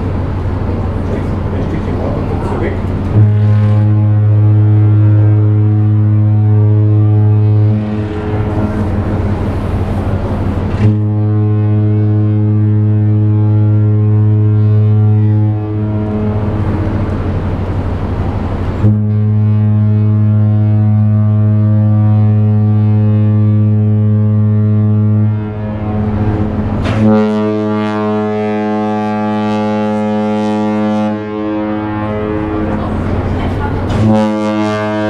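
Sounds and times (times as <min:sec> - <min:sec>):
ship horn blasts: 0:00.0 - 0:35.0.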